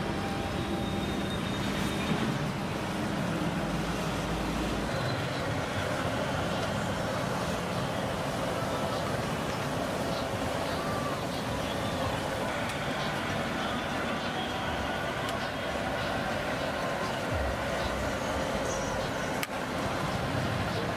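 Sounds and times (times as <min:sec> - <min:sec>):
road traffic noise: 0:00.0 - 0:20.9.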